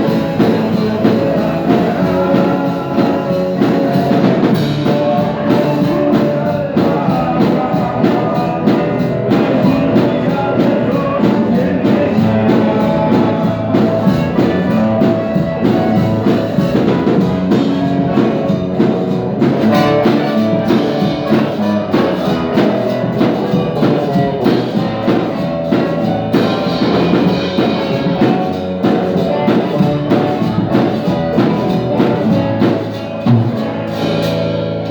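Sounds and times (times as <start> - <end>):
band music with drum kit: 0.0 - 34.9.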